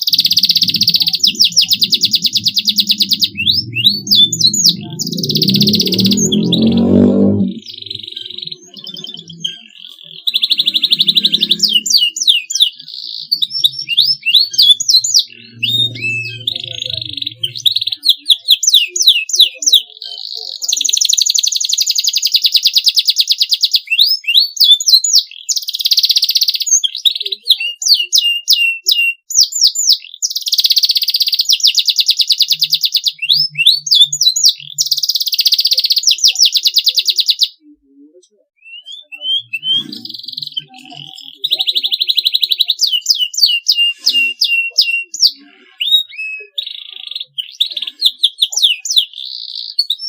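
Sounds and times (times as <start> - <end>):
canary singing trills and whistles: 0.0 - 50.0.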